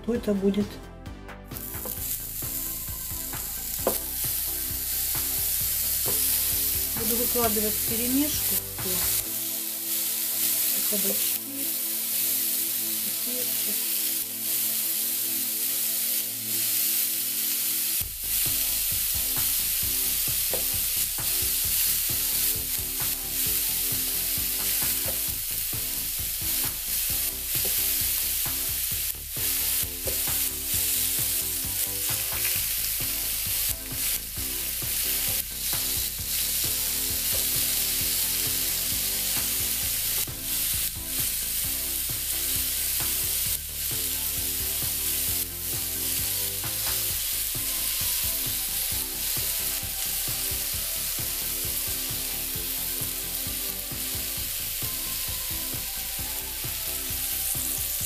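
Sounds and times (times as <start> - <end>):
vegetables sizzling on grill: 1.6 - 58.0.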